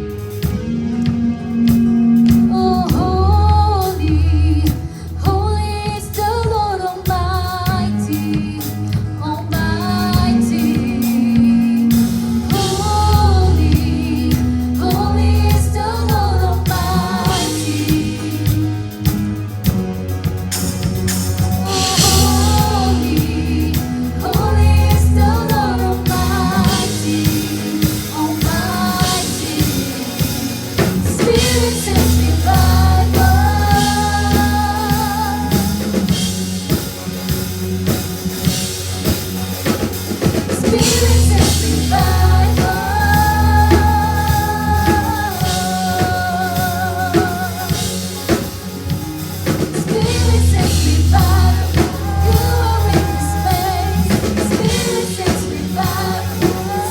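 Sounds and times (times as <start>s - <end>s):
person singing with vibrato: 0.0s - 19.4s, 21.6s - 37.0s, 40.4s - 56.9s
bass: 0.0s - 56.9s
drum kit: 0.0s - 56.9s.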